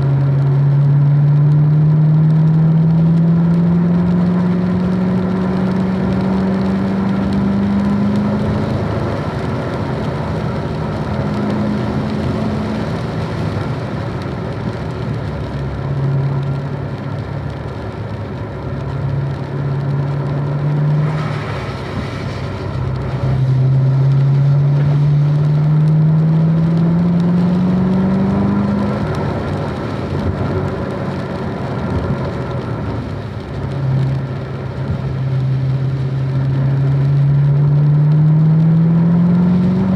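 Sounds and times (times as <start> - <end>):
car engine revving: 0.0 - 39.9
tyre and road noise: 0.0 - 39.9.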